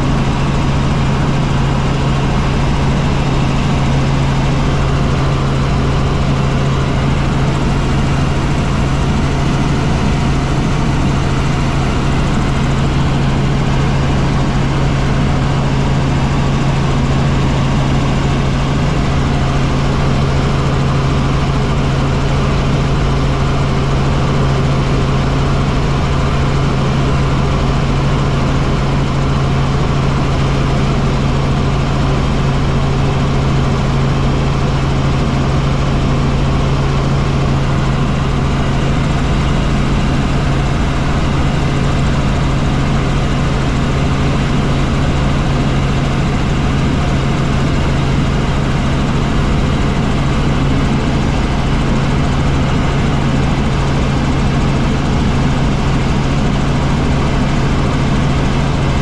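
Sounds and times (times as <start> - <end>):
helicopter engine and rotors drone: 0.0 - 59.0.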